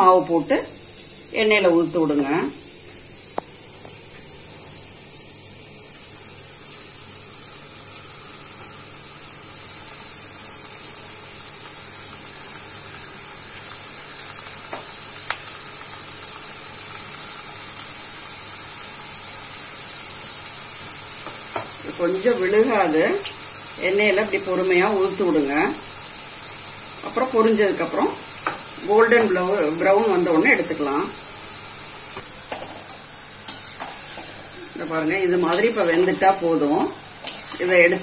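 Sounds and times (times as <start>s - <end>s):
batter deep-frying in hot oil: 0.0s - 38.0s.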